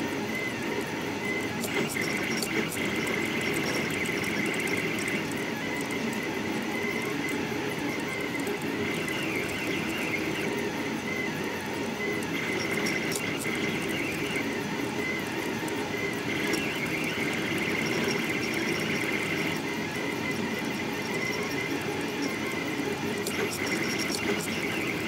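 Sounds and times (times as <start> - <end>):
steady mechanical whir: 0.0 - 25.0
stepper motors whining: 0.0 - 25.0.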